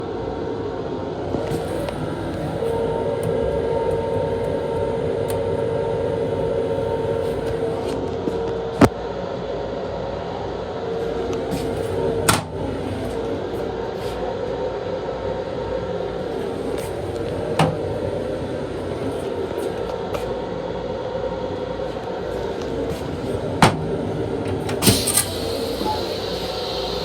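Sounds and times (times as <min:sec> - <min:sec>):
steady hum: 0:00.0 - 0:27.0
train running rumble: 0:00.8 - 0:08.9, 0:10.4 - 0:27.0.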